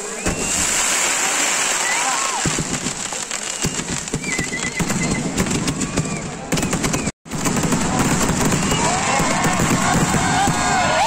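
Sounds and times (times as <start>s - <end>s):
crowd voices: 0.0s - 11.0s
firecrackers crackling: 0.4s - 11.0s.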